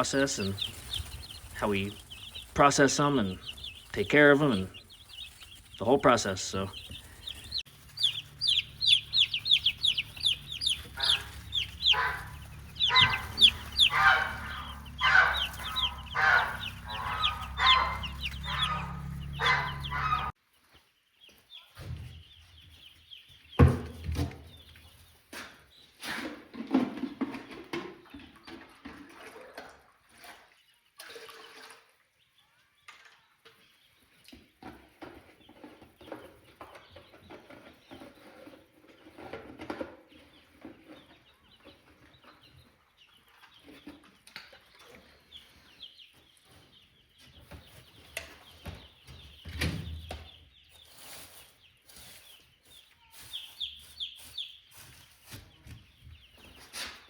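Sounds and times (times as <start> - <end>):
chicks peeping: 0.0 - 29.6, 30.3 - 30.9, 32.1 - 57.0.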